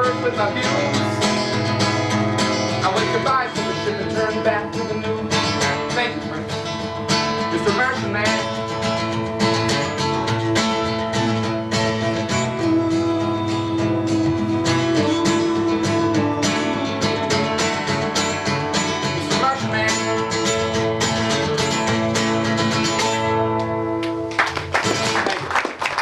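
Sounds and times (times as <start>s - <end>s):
acoustic guitar strummed and picked: 0.0s - 25.8s.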